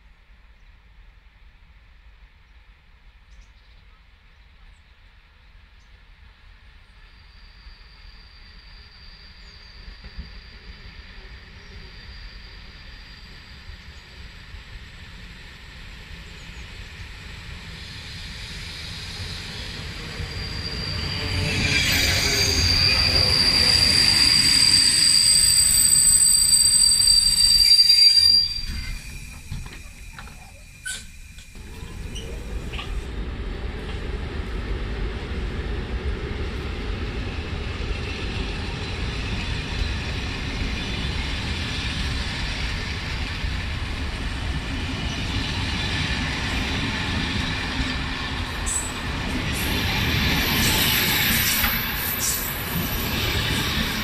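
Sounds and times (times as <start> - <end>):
train wheels and brakes squealing: 6.4 - 54.0.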